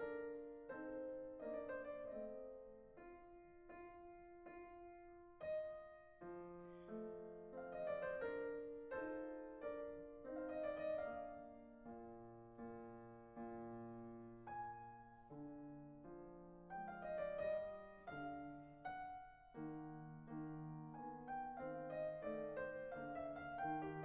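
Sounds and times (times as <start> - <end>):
slow soft solo piano: 0.0 - 24.0.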